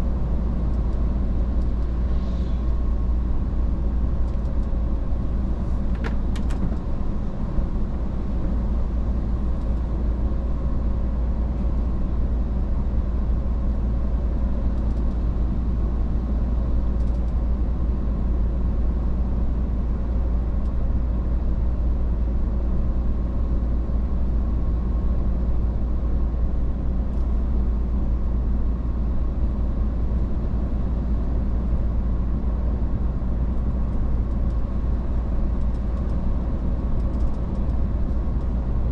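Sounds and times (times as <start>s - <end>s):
truck engine and road rumble: 0.0s - 38.9s.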